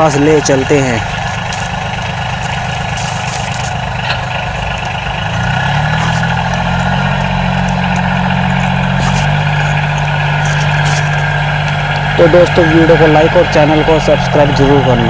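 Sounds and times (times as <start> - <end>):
toy truck engine drone: 0.0 - 15.0.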